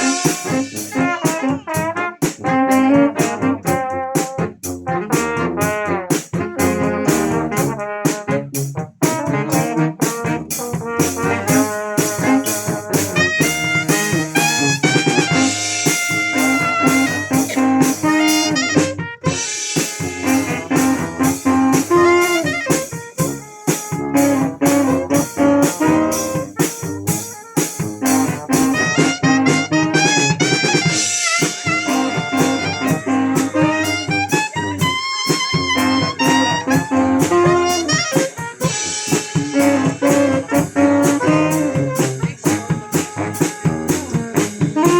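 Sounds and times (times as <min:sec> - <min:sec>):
brass band playing: 0:00.0 - 0:44.9
steady drum beat: 0:00.0 - 0:44.9.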